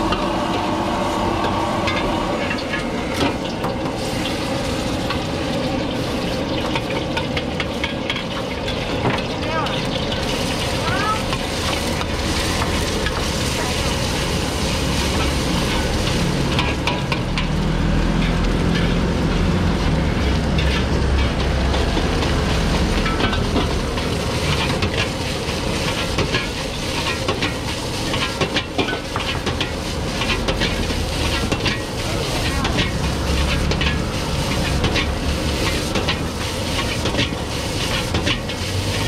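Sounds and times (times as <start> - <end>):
gas burner rumble: 0.0 - 39.0
metal ladle scraping wok: 0.0 - 39.0
rice sizzling in a wok: 0.0 - 39.0.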